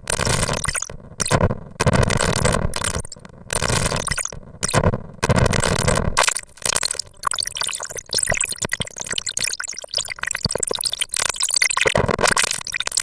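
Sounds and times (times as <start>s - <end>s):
harsh noise in choppy blocks: 0.0s - 13.0s.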